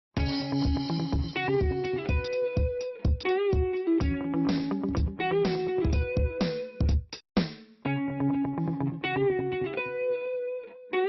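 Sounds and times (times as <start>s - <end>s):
guitar music with steady beat: 0.2s - 11.0s.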